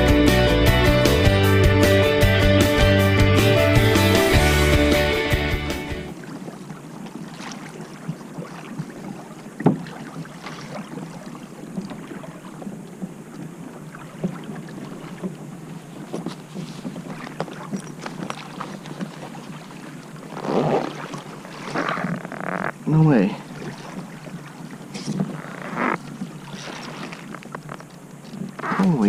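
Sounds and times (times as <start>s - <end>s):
water lapping against kayak hull: 4.2s - 29.0s.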